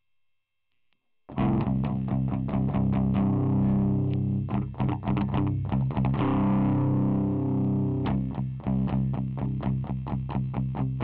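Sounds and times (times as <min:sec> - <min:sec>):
distorted electric guitar riff: 0:01.3 - 0:11.0.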